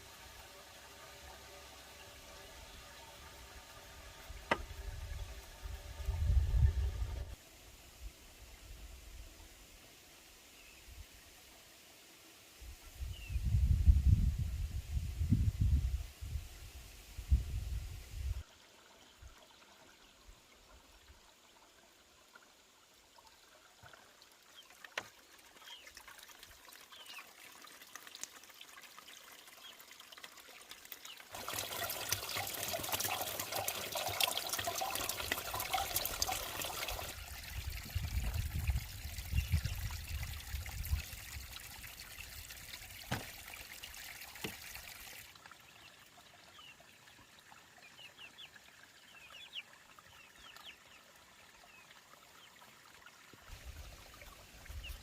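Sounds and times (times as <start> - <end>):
water pouring and splashing: 0.0 - 7.4, 18.4 - 55.0.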